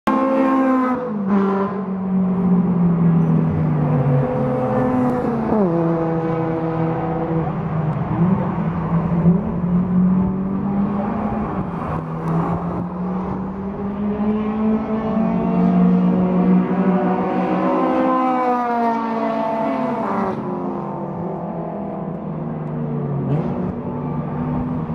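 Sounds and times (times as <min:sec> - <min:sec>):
race car engines at high revs: 0:00.1 - 0:24.9.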